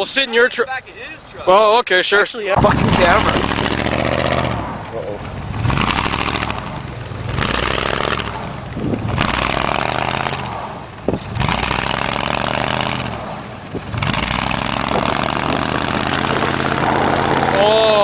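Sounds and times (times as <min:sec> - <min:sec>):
truck engine revving: 0:02.5 - 0:18.0
tyres spinning in snow: 0:02.6 - 0:18.0.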